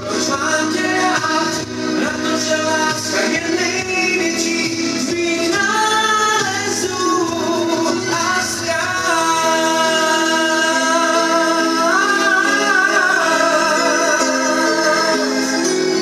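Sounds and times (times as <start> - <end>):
instrumental backing: 0.0 - 16.0
person singing: 0.0 - 16.0.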